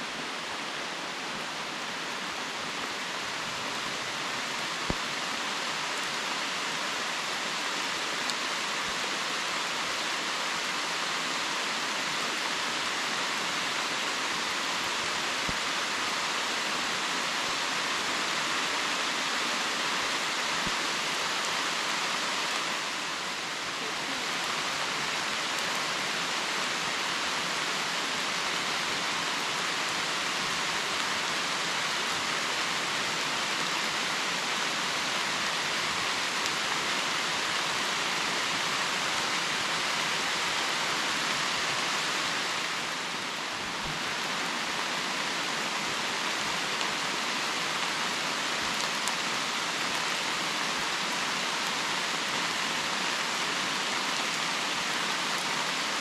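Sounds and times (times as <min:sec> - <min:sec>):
rain on leaves: 0:00.0 - 0:56.0.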